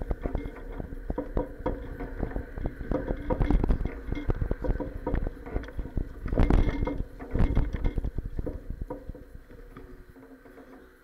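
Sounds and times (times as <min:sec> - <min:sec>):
bicycle clacks and knocks: 0:00.0 - 0:11.0.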